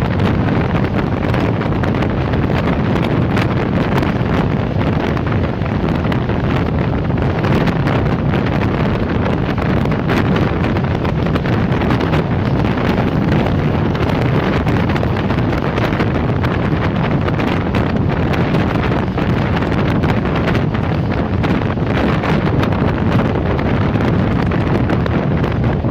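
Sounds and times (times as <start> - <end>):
train running at speed: 0.0 - 25.9
wind buffeting microphone: 0.0 - 25.9.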